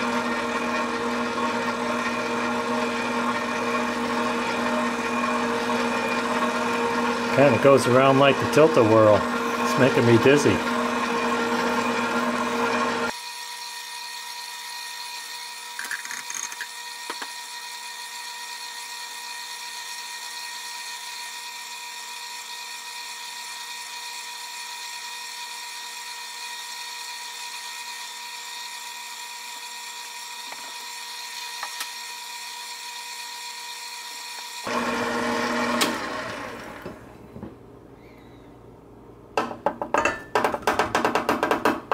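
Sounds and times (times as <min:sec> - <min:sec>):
stand mixer motor whining: 0:00.0 - 0:37.2.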